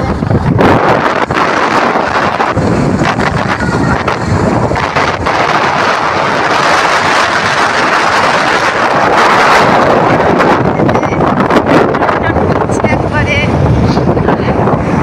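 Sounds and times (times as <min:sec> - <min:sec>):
vehicle rumble: 0:00.0 - 0:15.0
wind roaring over microphone: 0:00.0 - 0:15.0.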